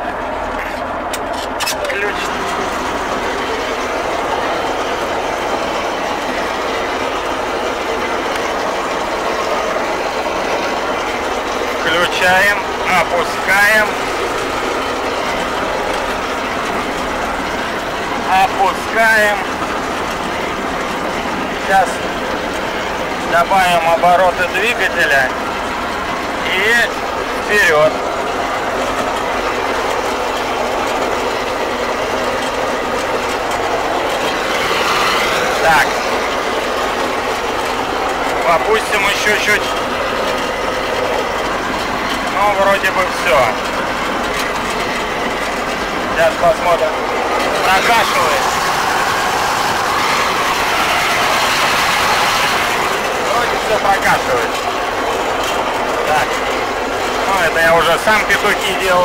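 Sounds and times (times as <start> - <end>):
cutting header clattering: 0.0 - 59.0
diesel engine and machinery running: 0.0 - 59.0.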